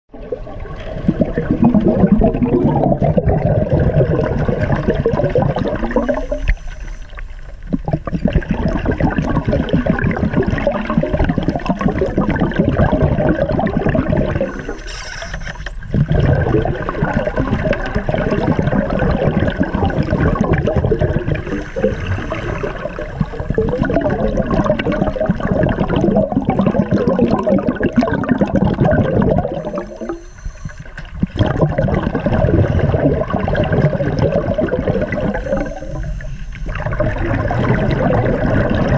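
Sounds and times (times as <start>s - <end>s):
scuba regulator bubbling: 0.1s - 38.9s.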